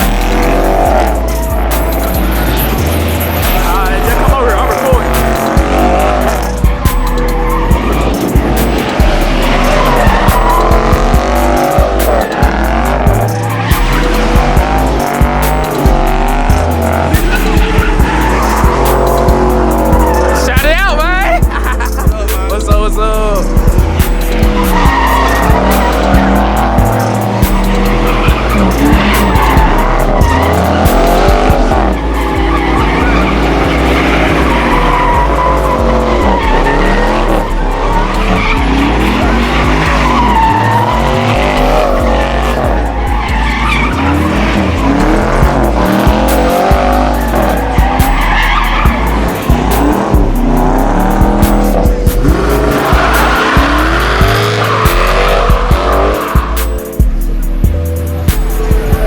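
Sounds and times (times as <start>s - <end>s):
bass-heavy music: 0.0s - 59.0s
car engines revving: 0.0s - 59.0s
tyres squealing: 0.0s - 59.0s.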